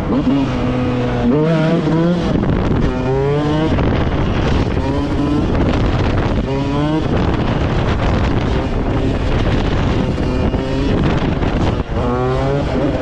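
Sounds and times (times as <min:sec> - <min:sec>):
pit bike engine revving: 0:00.0 - 0:13.0
wind noise on microphone: 0:00.0 - 0:13.0.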